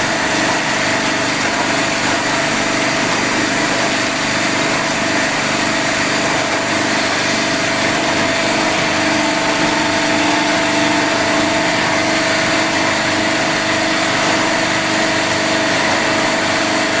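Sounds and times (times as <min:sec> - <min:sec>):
ice machine humming and hissing: 0:00.0 - 0:17.0.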